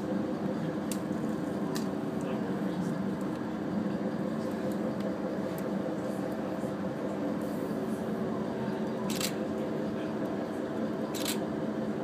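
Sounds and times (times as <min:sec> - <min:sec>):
low hum: 0:00.0 - 0:12.0
faint indistinct voices: 0:02.1 - 0:12.0.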